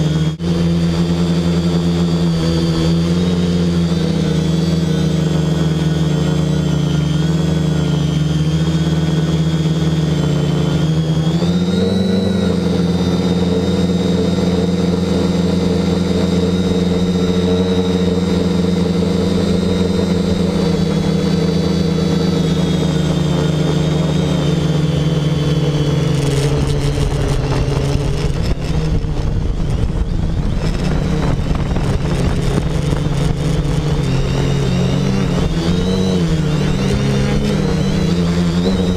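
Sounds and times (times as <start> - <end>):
quadcopter motors humming: 0.0 - 38.9
wind rumble on microphone: 0.0 - 38.9.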